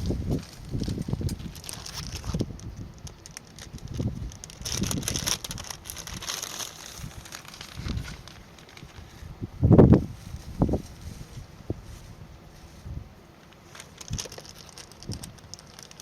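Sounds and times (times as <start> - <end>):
wind buffeting microphone: 0.0 - 13.2, 15.0 - 15.5
fine crackling or rustling: 0.0 - 16.0.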